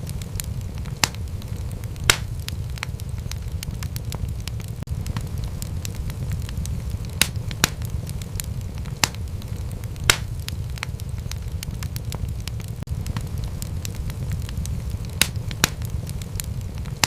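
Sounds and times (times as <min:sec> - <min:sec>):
low steady rumble: 0:00.0 - 0:17.0
wood fire crackling and popping: 0:00.0 - 0:17.0.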